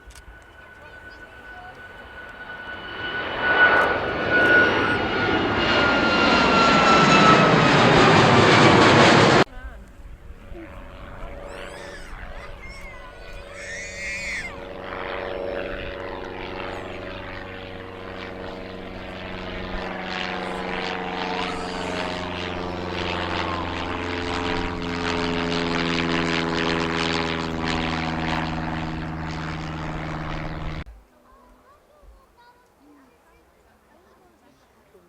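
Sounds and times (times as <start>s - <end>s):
aircraft engine passing by: 0.0s - 32.0s.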